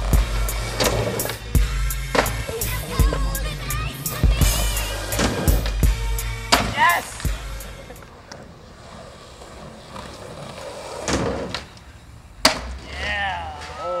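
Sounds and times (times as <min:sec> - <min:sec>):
skateboard scraping wooden ledge: 0:00.0 - 0:11.8
skateboard wheels rolling on pavement: 0:00.0 - 0:14.0.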